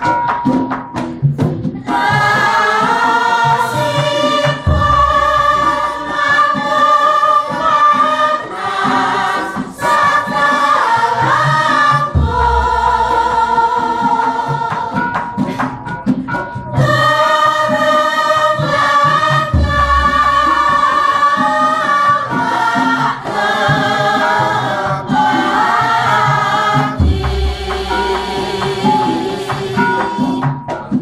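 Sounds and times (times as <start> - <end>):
group of people singing: 1.4 - 31.0.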